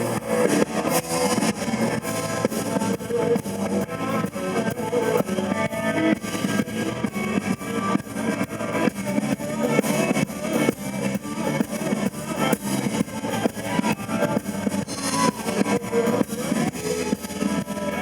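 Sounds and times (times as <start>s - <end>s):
blues-rock guitar: 0.0s - 18.0s
steady drum beat: 0.0s - 18.0s.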